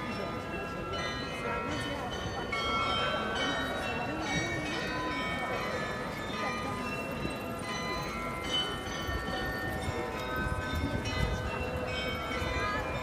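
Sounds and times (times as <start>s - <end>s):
carillon bells playing tune: 0.0s - 13.0s.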